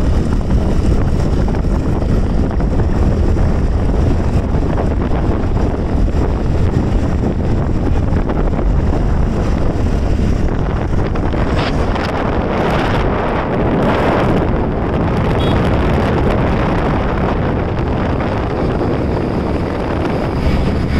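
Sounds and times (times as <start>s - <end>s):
motorcycle engine and road noise: 0.0s - 20.9s
wind rushing over microphone: 0.0s - 20.9s.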